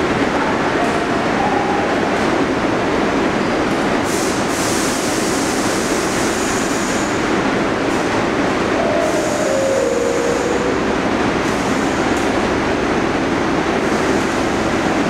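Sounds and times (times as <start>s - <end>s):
subway train rumbling in: 0.0s - 15.0s.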